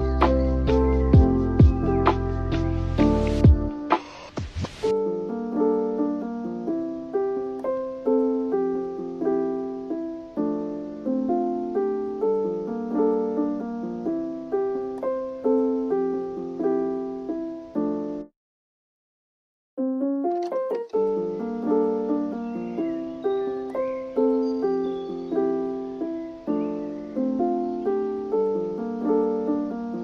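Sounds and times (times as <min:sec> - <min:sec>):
piano music: 0:00.0 - 0:04.2, 0:04.8 - 0:18.3, 0:19.8 - 0:30.0.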